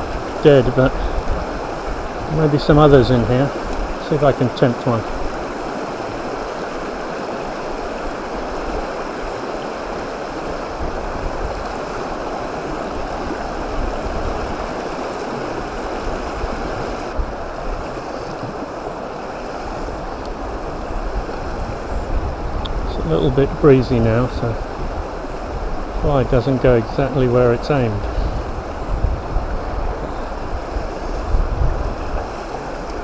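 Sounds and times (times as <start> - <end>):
stream rushing over stones: 0.0 - 33.0
wind rumbling on microphone: 0.0 - 33.0.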